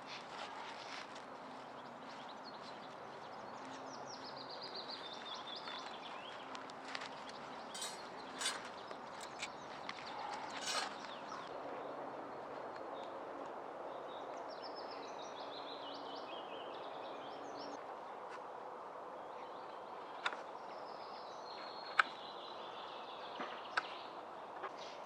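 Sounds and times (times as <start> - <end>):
songbird singing: 0.0 - 13.1, 13.9 - 17.8, 19.1 - 25.0.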